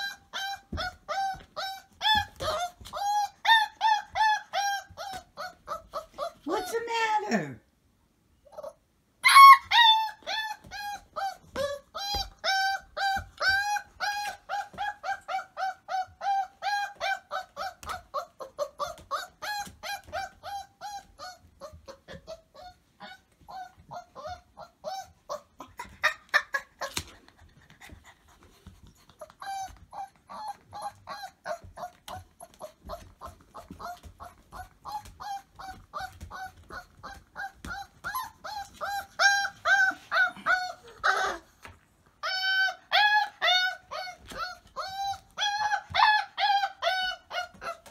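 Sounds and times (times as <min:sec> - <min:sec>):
squeaky dog toy squeaking: 0:00.0 - 0:07.4, 0:08.5 - 0:26.9, 0:29.2 - 0:41.5, 0:42.2 - 0:47.9.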